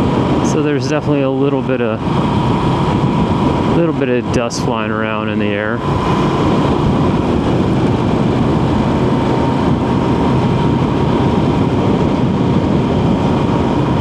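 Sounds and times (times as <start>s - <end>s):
motorcycle engine and road noise: 0.0s - 14.0s
thin steady whine: 0.0s - 14.0s
wind rushing over microphone: 0.0s - 14.0s.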